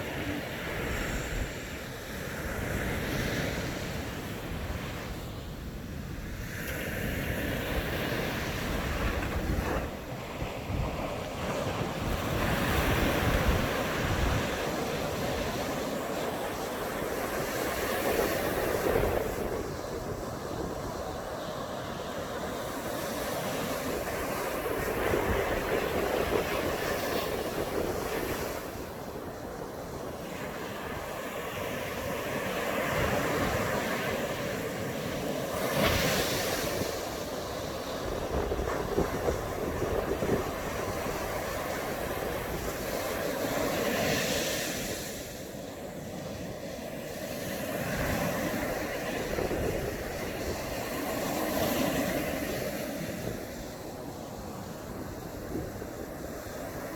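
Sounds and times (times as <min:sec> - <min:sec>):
wind buffeting microphone: 0:00.0 - 0:45.3, 0:46.3 - 0:56.9
sea waves breaking on beach: 0:00.0 - 0:56.9.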